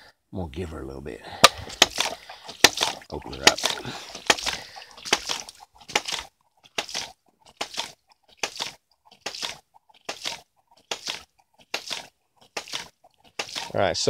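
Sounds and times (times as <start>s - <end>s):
water spurting and splashing: 1.4s - 14.0s.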